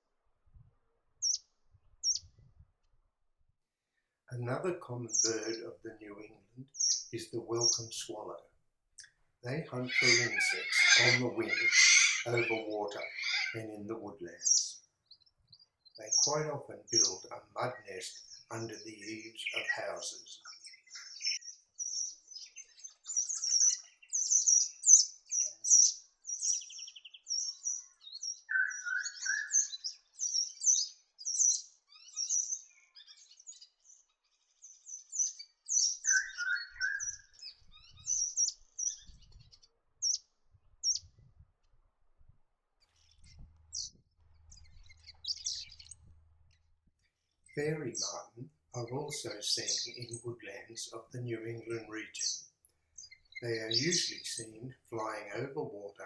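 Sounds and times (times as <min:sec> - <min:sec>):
swallows twittering: 0:01.2 - 0:02.4, 0:04.0 - 0:08.4, 0:09.0 - 0:41.2, 0:43.0 - 0:56.0
low warbled bird phrases: 0:04.0 - 0:33.6, 0:34.6 - 0:40.2, 0:43.1 - 0:46.2, 0:47.5 - 0:56.0.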